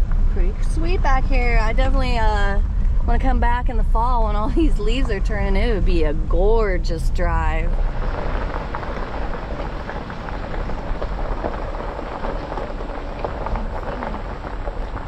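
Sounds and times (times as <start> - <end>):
tyres rolling on gravel: 0.7 - 15.0.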